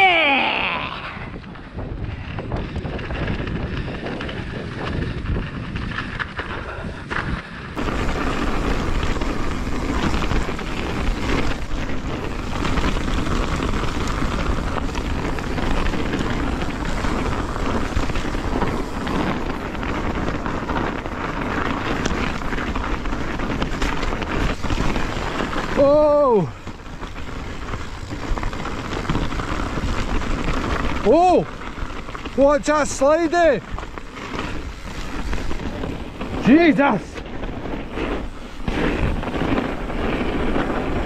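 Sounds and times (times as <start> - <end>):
wind on microphone: 0.0 - 41.0
bike knocking and rattling: 1.2 - 41.0
tyres rolling on dirt: 1.2 - 41.0.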